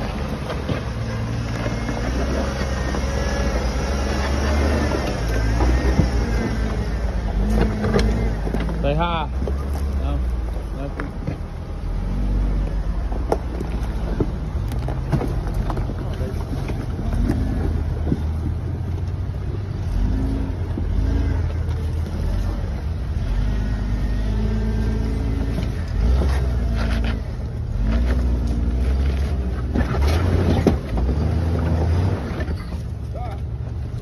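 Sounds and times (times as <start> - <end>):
engine revving under load: 0.0 - 11.0, 11.8 - 33.0.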